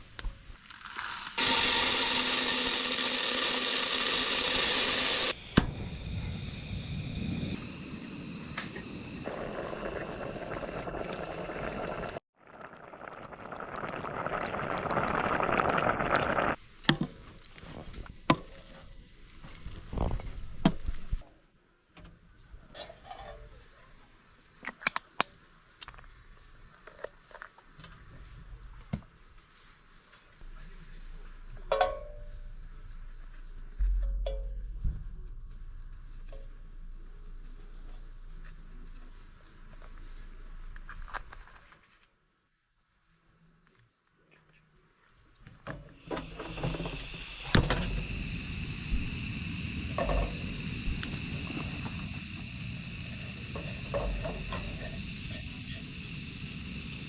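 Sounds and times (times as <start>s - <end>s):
crickets trilling: 0.0s - 21.4s, 22.3s - 57.0s.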